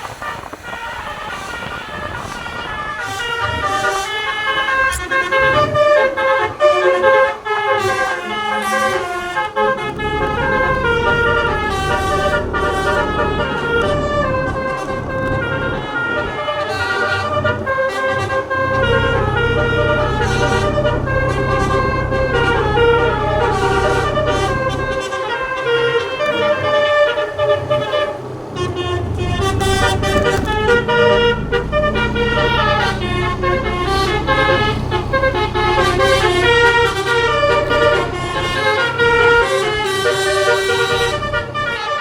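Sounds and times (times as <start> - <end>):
low engine rumble: 0.0 - 42.0
musical horn melody: 0.0 - 42.0.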